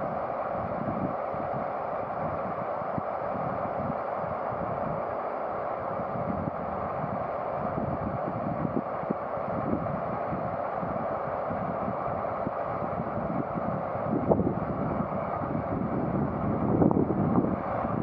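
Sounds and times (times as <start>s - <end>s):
wind buffeting microphone: 0.0s - 5.1s, 5.8s - 18.0s
diesel locomotive engines running: 0.0s - 18.0s.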